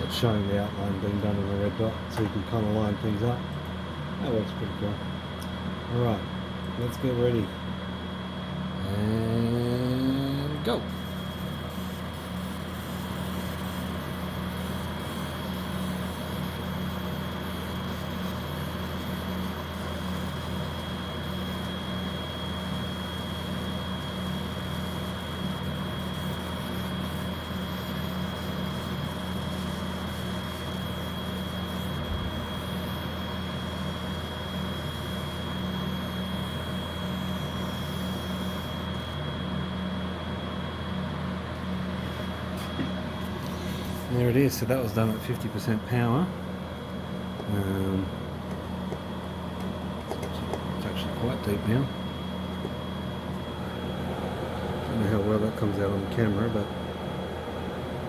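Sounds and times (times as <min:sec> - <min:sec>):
high fan whine: 0:00.0 - 0:58.0
laser engraver humming: 0:00.0 - 0:58.0.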